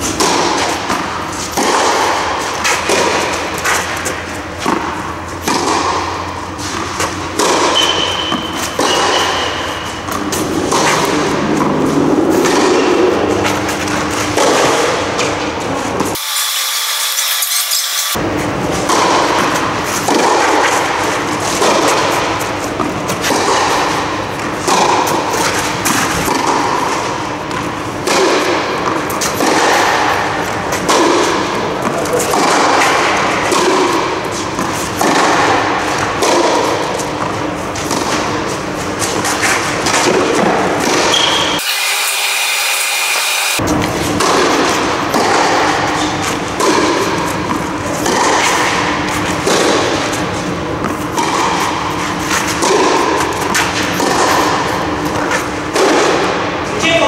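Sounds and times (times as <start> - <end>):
ball bouncing on clay court: 0.0 - 16.2, 18.1 - 41.6, 43.5 - 57.0
tennis ball struck by rackets: 0.0 - 16.2, 18.1 - 41.6, 43.6 - 56.7.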